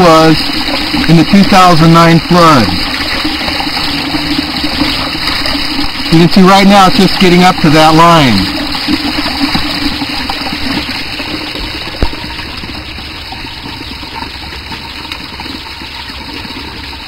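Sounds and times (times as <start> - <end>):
water running and splashing: 0.0 - 17.0.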